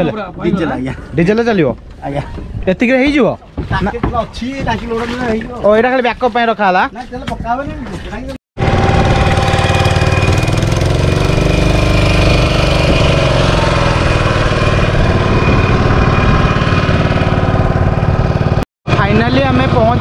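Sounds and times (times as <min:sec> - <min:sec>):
boat engine chugging: 0:00.2 - 0:20.0.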